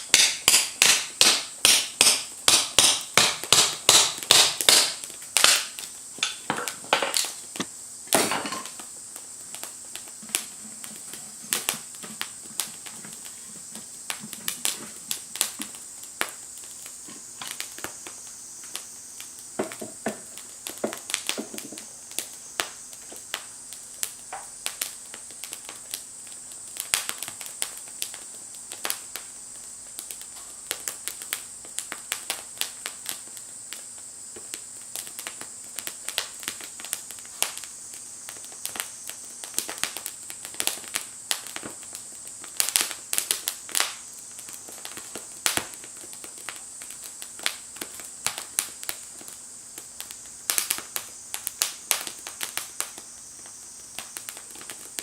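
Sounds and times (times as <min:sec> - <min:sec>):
steady high hiss: 0:00.0 - 0:55.0
wood fire crackling: 0:00.0 - 0:55.0.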